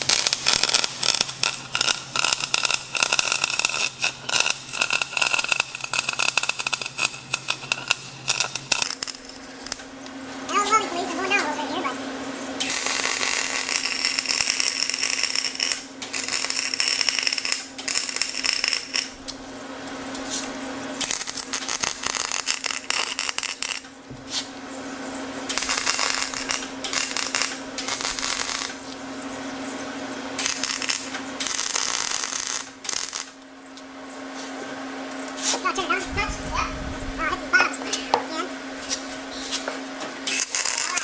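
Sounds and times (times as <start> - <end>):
welding arc crackling and hissing: 0.0 - 10.0, 12.6 - 19.5, 20.2 - 24.5, 25.4 - 29.2, 30.3 - 33.4, 35.2 - 41.0
steady low hum: 0.0 - 41.0.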